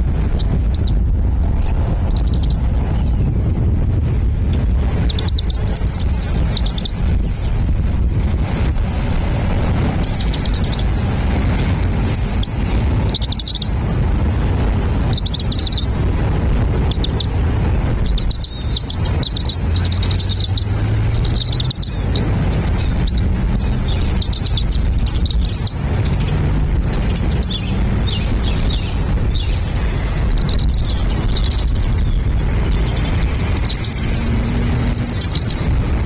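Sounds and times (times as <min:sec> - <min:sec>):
steady low rumble: 0:00.0 - 0:36.0
small birds chirping: 0:00.2 - 0:01.0, 0:01.7 - 0:04.0, 0:04.8 - 0:07.8, 0:08.4 - 0:36.0.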